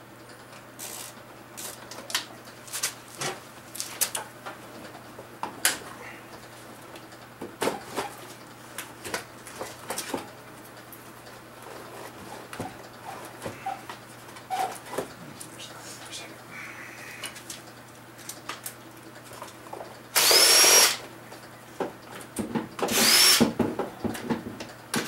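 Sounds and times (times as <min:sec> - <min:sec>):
steady low hum: 0:00.0 - 0:22.8.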